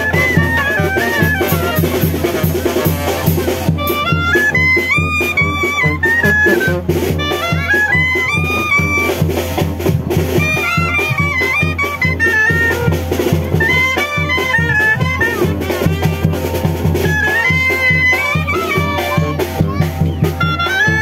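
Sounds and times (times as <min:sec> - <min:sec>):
steady drum beat: 0:00.0 - 0:21.0
wind instruments melody: 0:00.0 - 0:21.0.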